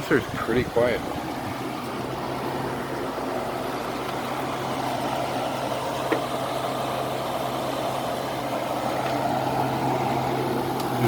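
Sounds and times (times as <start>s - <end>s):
air conditioner fan rushing: 0.0s - 11.0s
compressor humming: 0.0s - 11.0s.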